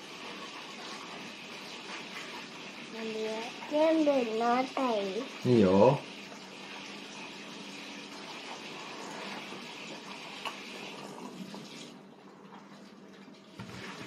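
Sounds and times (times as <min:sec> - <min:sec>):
running tap water: 0:00.0 - 0:14.0.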